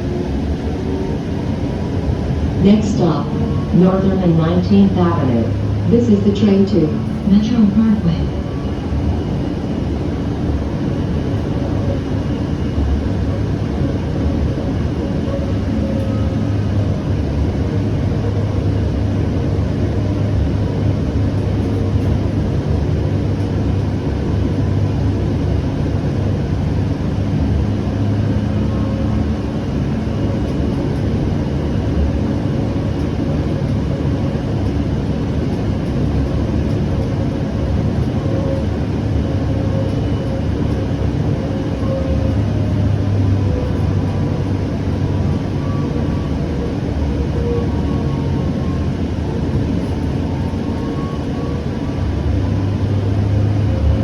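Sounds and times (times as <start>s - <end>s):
faint hum: 0.0s - 54.0s
train wheels rumbling on rails: 0.0s - 54.0s.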